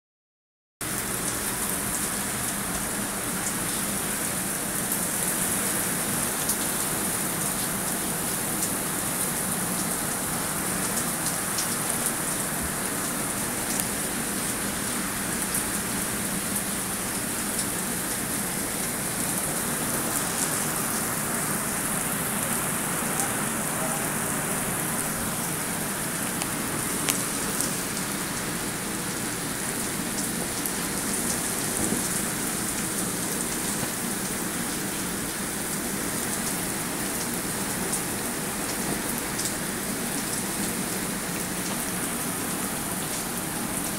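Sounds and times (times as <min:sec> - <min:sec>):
heavy rain on gravel: 0:00.8 - 0:43.9.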